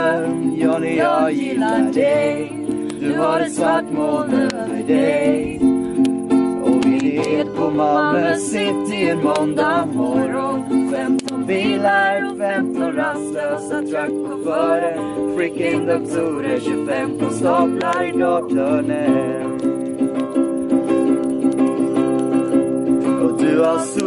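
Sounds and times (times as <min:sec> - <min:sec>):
person singing: 0:00.0 - 0:05.7, 0:06.6 - 0:19.7, 0:23.1 - 0:24.0
strummed string instrument: 0:00.0 - 0:24.0.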